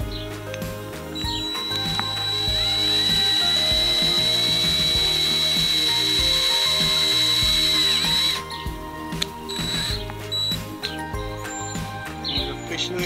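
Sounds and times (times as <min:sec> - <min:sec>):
cordless drill whining: 0:01.0 - 0:12.9.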